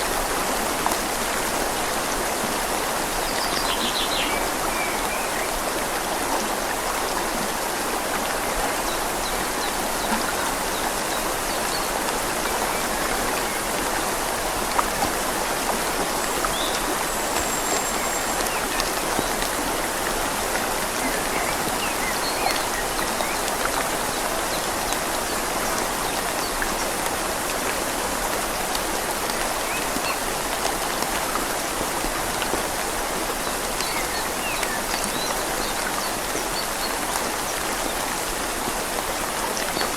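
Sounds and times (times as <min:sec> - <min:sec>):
rain falling on leaves: 0:00.0 - 0:39.9
river flowing: 0:00.0 - 0:39.9.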